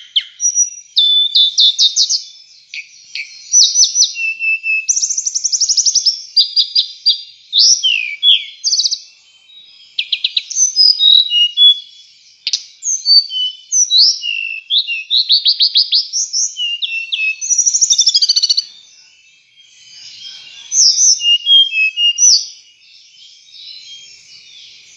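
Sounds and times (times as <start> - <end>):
songbird singing whistles and trills: 0.0 - 24.9.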